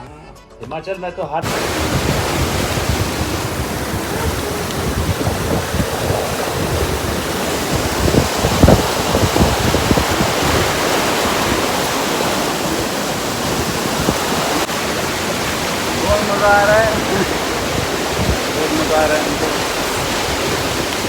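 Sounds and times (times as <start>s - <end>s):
fast-flowing water rushing: 1.4s - 21.0s
wind buffeting microphone: 1.4s - 21.0s.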